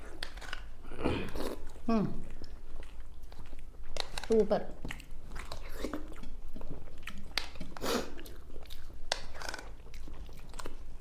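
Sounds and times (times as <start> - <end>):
chewing and wet mouth noises: 0.0 - 11.0.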